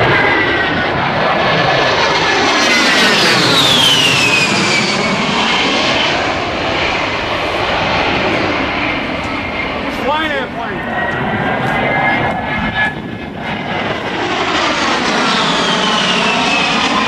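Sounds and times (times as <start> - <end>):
aircraft engine roaring: 0.0 - 17.0
high whine dropping in pitch: 0.0 - 17.0.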